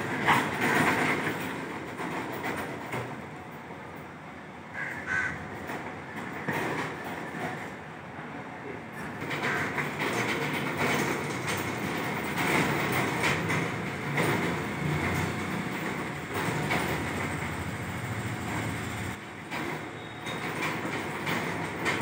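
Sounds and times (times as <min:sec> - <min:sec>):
lift wheels rolling on floor: 0:00.0 - 0:04.2, 0:05.4 - 0:08.0, 0:08.7 - 0:22.0.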